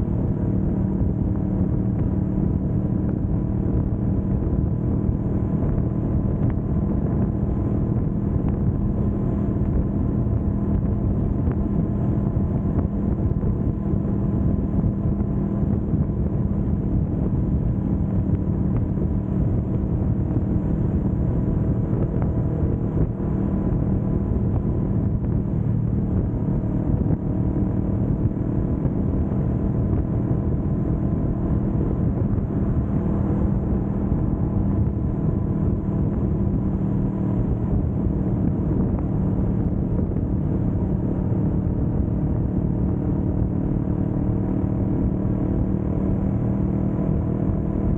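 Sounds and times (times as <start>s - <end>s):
motorcycle engine cruising: 0.0s - 47.9s
road and wind noise: 0.0s - 47.9s.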